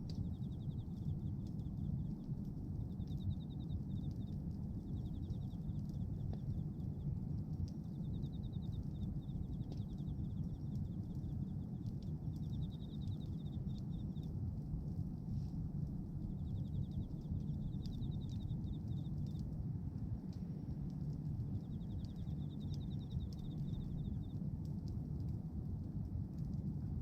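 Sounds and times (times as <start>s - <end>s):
bonfire rumbling and crackling: 0.0s - 27.0s.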